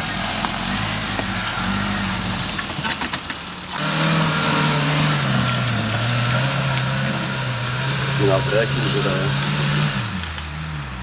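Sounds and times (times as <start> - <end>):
off-road vehicle engine under load: 0.0 - 11.0.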